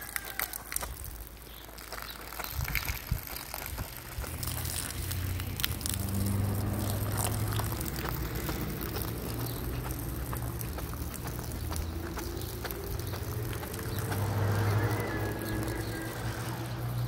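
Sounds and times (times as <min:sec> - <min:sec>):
wet fabric scrubbed on pavement: 0:00.0 - 0:17.0.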